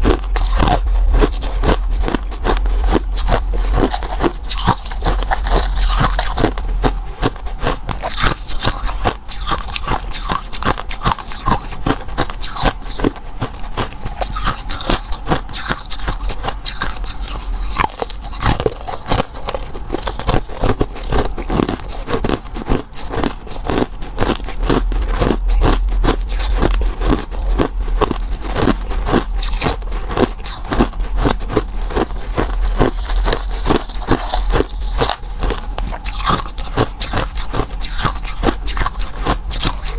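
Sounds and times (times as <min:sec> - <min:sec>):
biting and chewing cakes: 0:00.0 - 0:39.9.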